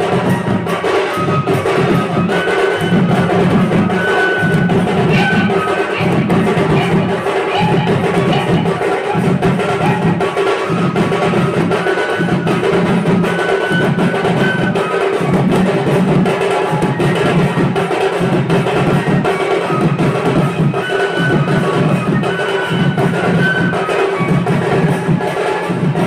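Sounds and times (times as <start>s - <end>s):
barrel drums beating: 0.0s - 26.0s.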